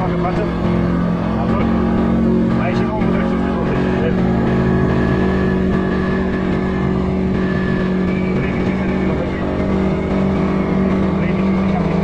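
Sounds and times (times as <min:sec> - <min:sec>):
atv engine running: 0:00.0 - 0:12.0
low ride rumble: 0:00.0 - 0:12.0.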